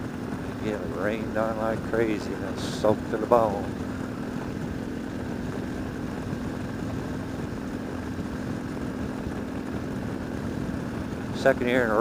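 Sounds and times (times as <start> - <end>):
motorcycle engine cruising: 0.0 - 12.0
road noise: 0.0 - 12.0.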